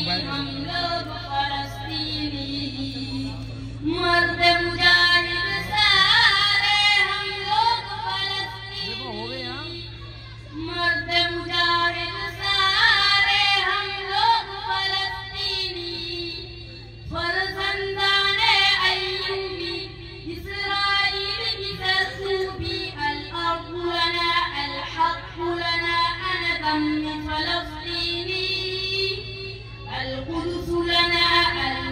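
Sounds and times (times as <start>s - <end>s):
boy singing over loudspeaker: 0.0s - 31.9s
steady low hum: 0.0s - 31.9s.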